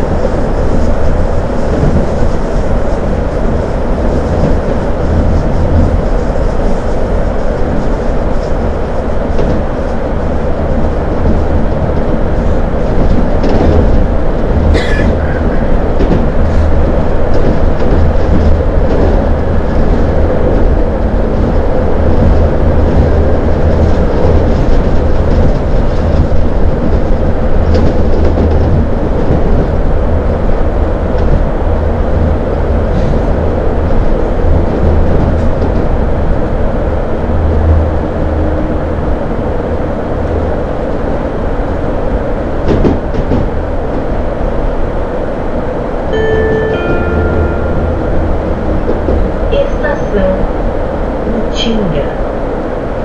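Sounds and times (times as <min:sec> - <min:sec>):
train rumbling with wheel-on-rail noise: 0:00.0 - 0:53.0.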